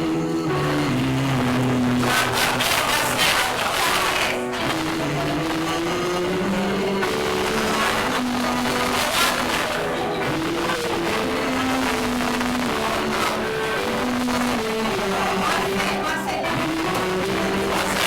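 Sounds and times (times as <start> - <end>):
slow wordless tune: 0.0 - 18.0.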